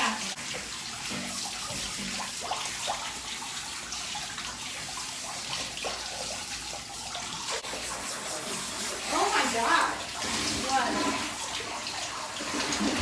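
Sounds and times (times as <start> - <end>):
shower water running into bathtub: 0.0 - 13.0.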